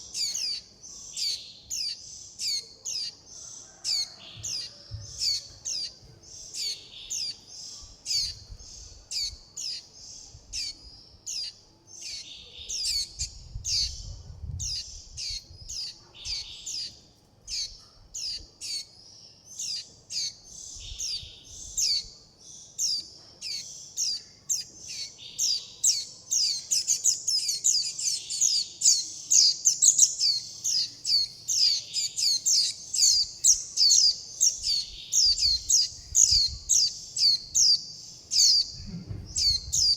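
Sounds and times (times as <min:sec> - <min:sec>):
young bird chirping: 0:00.0 - 0:39.9.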